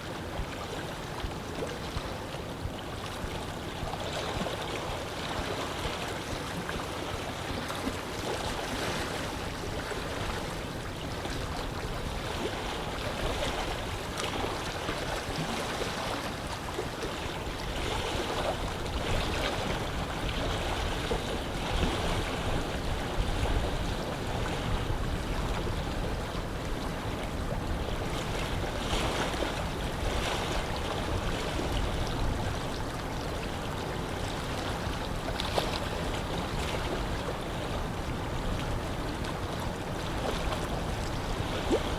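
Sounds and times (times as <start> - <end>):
small waves lapping: 0.0 - 41.9.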